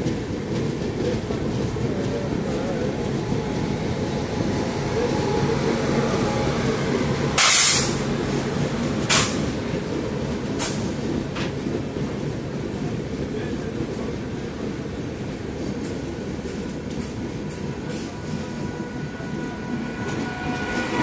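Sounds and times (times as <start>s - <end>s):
train rumbling on track: 0.0s - 21.0s.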